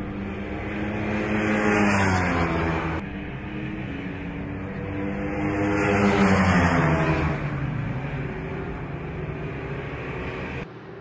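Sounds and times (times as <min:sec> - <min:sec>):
superbike engines passing at speed: 0:00.0 - 0:10.6.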